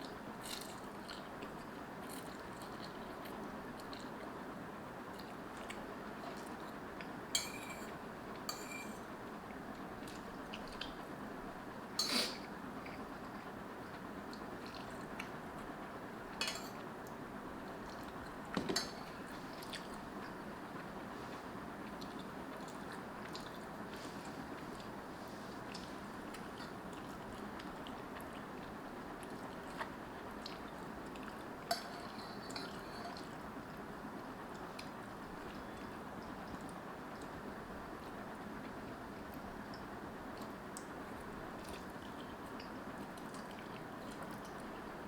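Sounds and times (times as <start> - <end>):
soft chewing: 0.0 - 11.2, 12.0 - 45.0.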